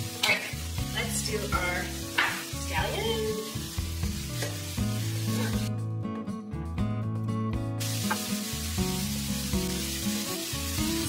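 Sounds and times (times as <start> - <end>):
meat sizzling in a pan: 0.0 - 5.7, 7.8 - 11.0
background music: 0.0 - 11.0.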